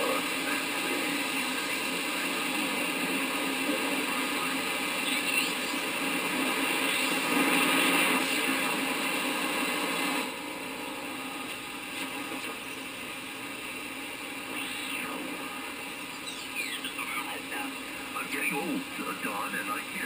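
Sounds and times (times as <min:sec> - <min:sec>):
shortwave radio static: 0:00.0 - 0:20.0.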